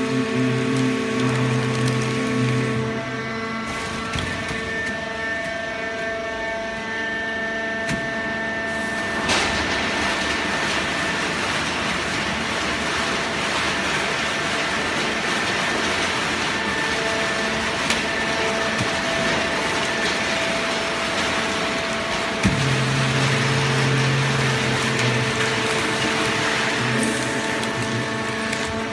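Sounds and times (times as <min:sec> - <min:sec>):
baling press machine hum: 0:00.0 - 0:28.9.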